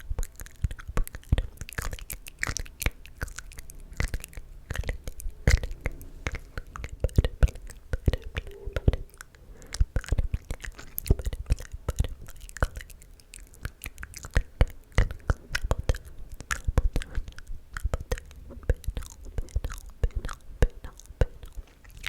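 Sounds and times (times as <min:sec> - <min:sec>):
wet mouth clicks and smacks: 0:00.0 - 0:22.0.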